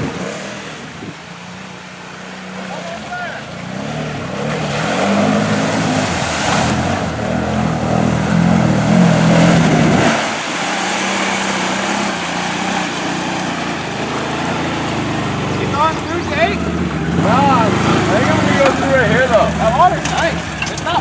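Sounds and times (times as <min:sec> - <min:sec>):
atv engine revving: 0:00.0 - 0:21.0
water churning: 0:00.0 - 0:21.0.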